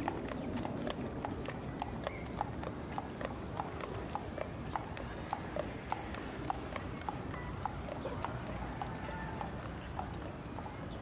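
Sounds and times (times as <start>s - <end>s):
horse hooves clip-clopping on pavement: 0.0s - 11.0s.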